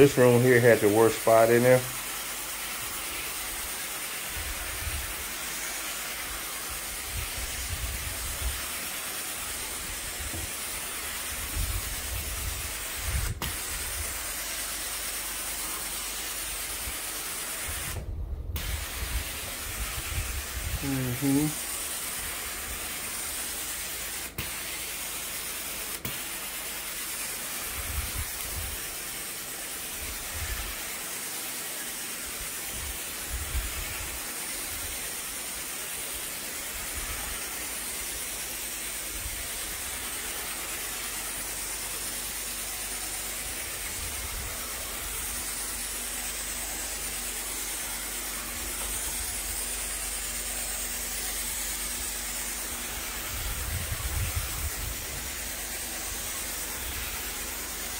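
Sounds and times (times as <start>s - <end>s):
extraction wand hissing and whistling: 0.0s - 18.0s, 18.6s - 57.9s.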